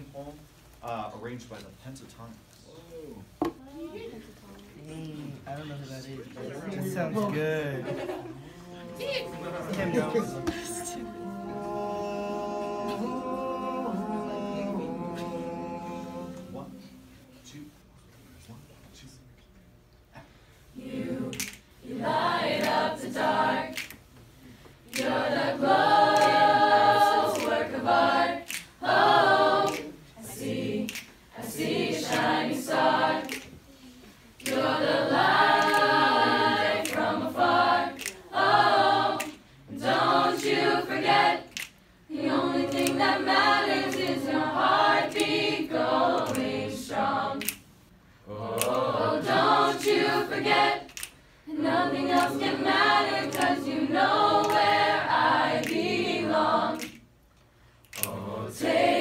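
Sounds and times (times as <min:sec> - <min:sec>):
mixed choir singing a cappella: 0:06.4 - 0:17.4, 0:20.7 - 0:57.1, 0:57.9 - 0:59.0.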